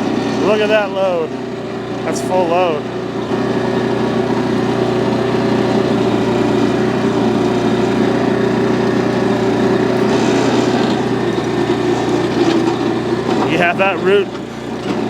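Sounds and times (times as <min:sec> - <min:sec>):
backhoe digging dry soil: 0:00.0 - 0:15.0
gas engine running: 0:00.0 - 0:15.0.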